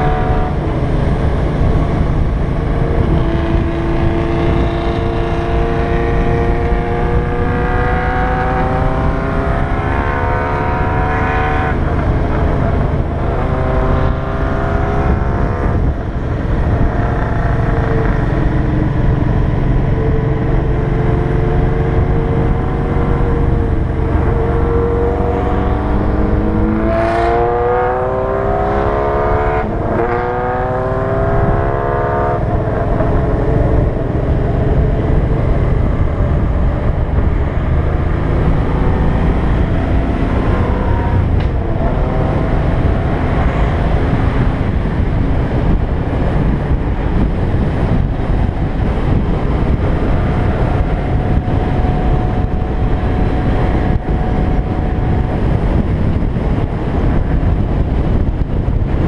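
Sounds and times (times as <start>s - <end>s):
motorcycle engine accelerating: 0.0s - 59.0s
wind rumble on microphone: 0.0s - 59.0s.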